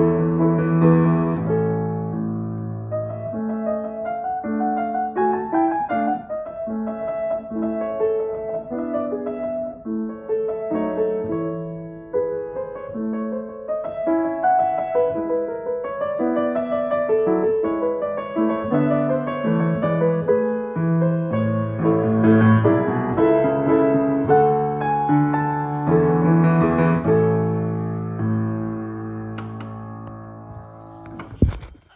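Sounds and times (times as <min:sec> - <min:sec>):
piano playing melody over chords: 0:00.0 - 0:31.1.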